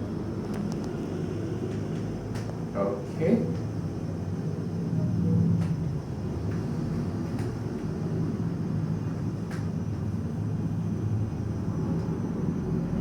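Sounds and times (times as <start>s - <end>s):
low room noise rumble: 0.0s - 13.0s.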